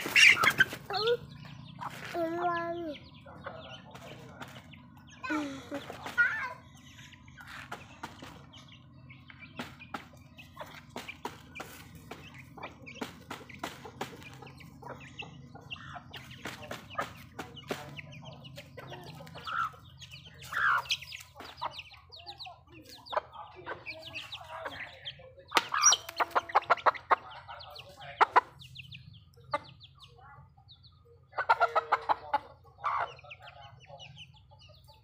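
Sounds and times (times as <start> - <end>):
chickens clucking: 0.0 - 35.0
chicks peeping: 0.0 - 35.0.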